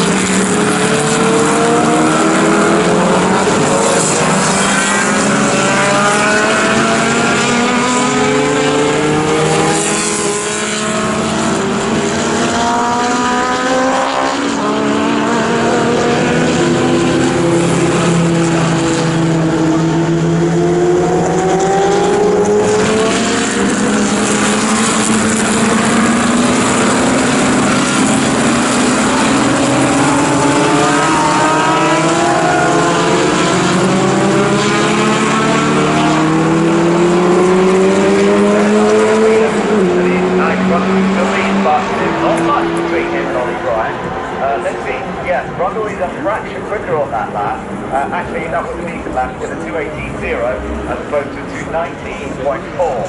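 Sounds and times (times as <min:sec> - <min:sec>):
racing car engines accelerating: 0:00.0 - 0:53.0.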